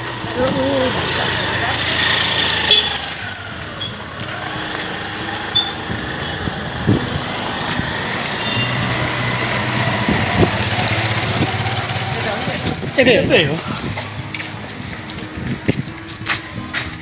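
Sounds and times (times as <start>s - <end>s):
road noise: 0.0s - 17.0s
vehicle engine running: 0.0s - 17.0s.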